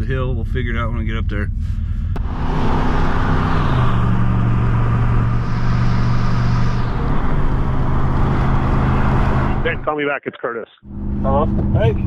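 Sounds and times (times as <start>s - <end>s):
vehicle engine: 0.0s - 9.9s, 10.8s - 12.0s
road noise: 1.5s - 10.0s, 10.8s - 12.0s.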